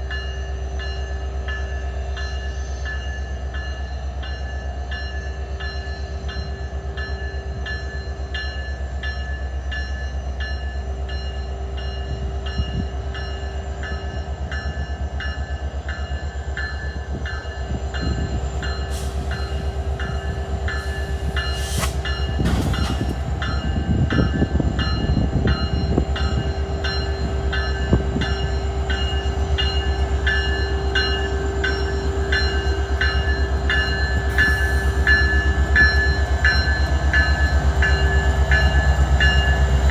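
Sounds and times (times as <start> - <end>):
diesel train rumbling: 0.0 - 39.9
rail noise: 0.0 - 39.9
locomotive bell ringing: 3.6 - 39.9.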